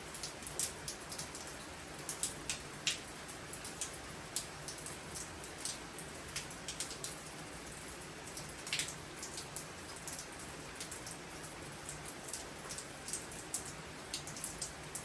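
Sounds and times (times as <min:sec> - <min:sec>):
rain pouring: 0:00.0 - 0:15.0.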